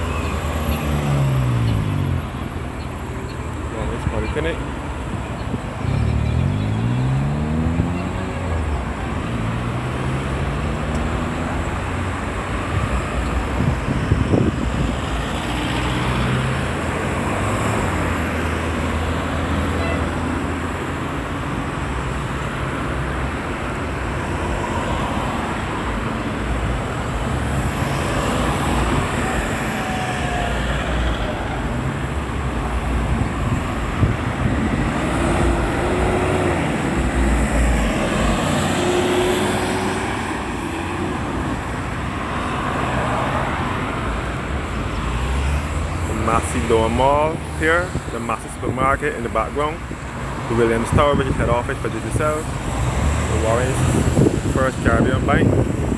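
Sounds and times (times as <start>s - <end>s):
vehicles passing and accelerating: 0.0s - 55.9s.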